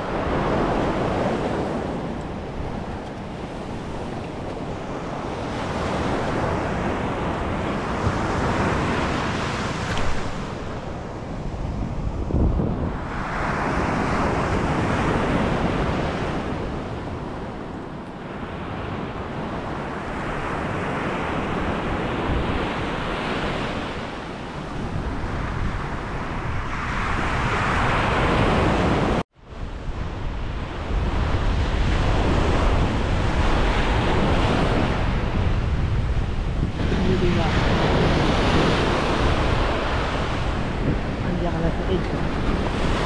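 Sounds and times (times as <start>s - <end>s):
ocean surf breaking on beach: 0.0s - 43.0s
wind rumbling on microphone: 0.0s - 43.0s.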